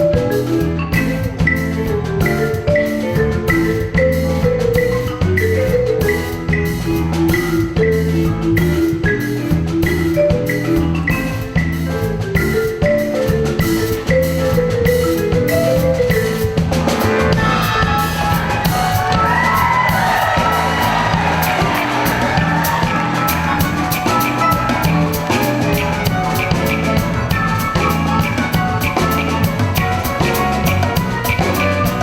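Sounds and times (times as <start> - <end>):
band music with drum beat: 0.0 - 32.0.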